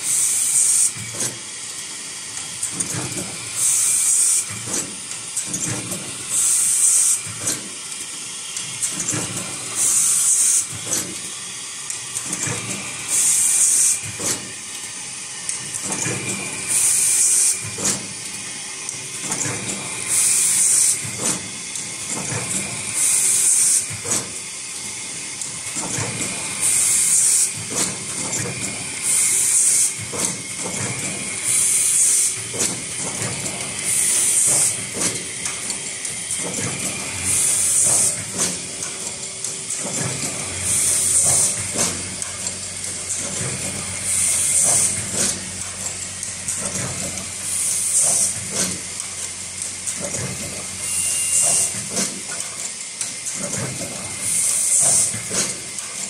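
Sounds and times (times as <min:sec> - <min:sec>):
pneumatic air hiss: 0:00.0 - 0:56.0
machine clicking and knocking: 0:00.1 - 0:11.3, 0:11.9 - 0:56.0.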